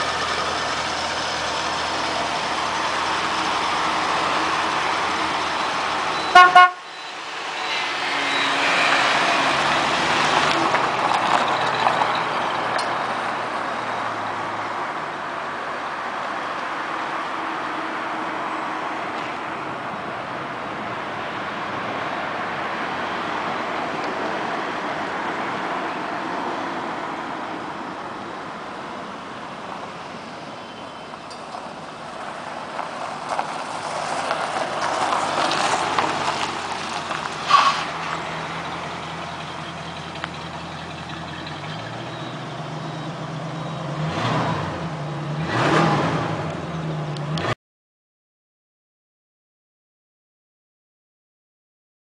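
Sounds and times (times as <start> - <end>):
car engine driving on gravel: 0.0 - 47.5.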